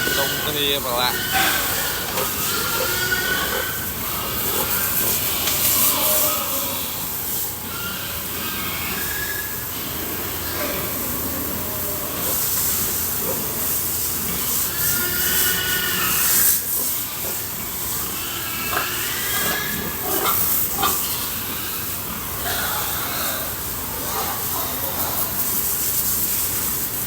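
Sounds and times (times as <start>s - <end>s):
pigs squealing: 0.0s - 27.0s
water hose spraying: 0.0s - 27.0s.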